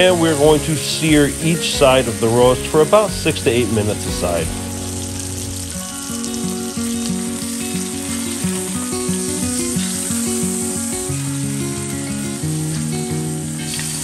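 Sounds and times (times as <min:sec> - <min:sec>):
meat sizzling in oil: 0:00.0 - 0:14.0
plucked melody background music: 0:00.0 - 0:14.0.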